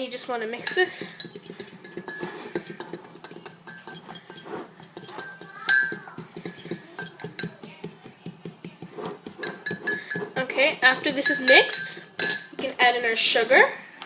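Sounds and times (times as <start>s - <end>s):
fork scraping a dish: 0.6s - 12.4s.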